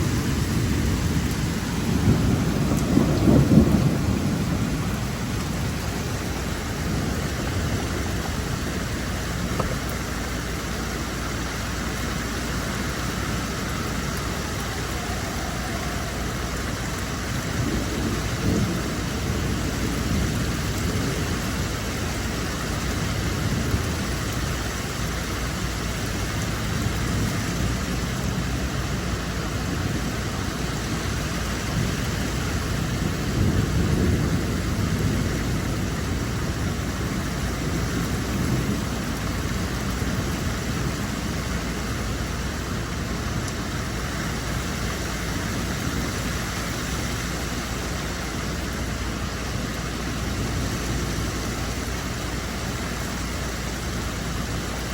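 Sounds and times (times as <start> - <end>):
low rumbles: 0.0 - 54.9
rain falling: 0.0 - 54.9.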